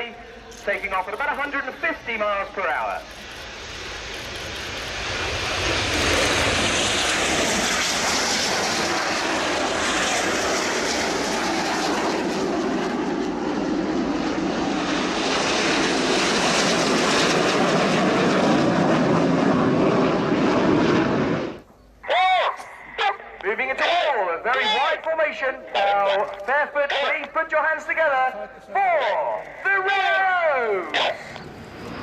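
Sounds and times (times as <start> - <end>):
jet engines at takeoff: 0.0 - 32.0.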